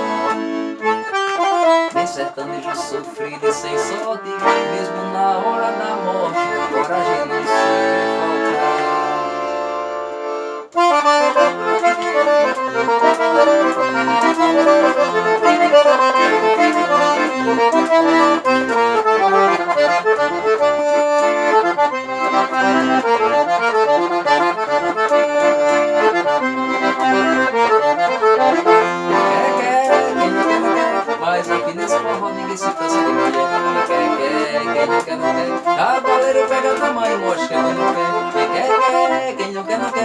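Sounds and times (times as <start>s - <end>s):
accordion playing: 0.0s - 40.0s.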